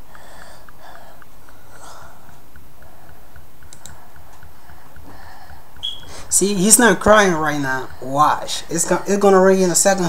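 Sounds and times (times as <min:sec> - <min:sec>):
faint steady ticking: 0:00.0 - 0:10.0
low hiss: 0:00.0 - 0:10.0.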